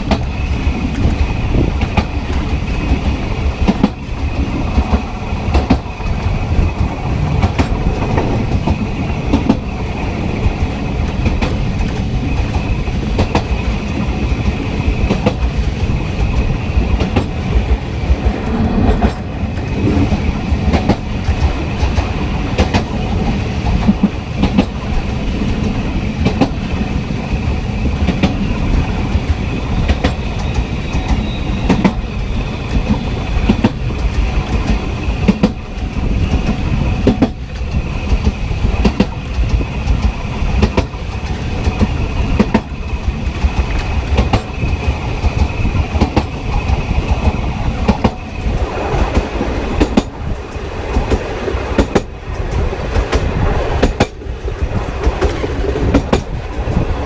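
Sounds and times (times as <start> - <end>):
train carriage rumble and rattle: 0.0 - 57.0
wheels clicking over rails: 0.0 - 57.0.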